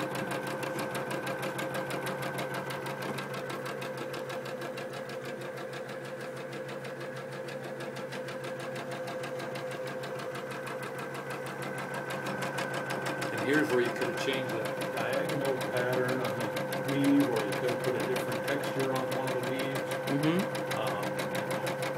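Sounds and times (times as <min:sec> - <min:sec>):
embroidery machine stitching: 0:00.0 - 0:21.9.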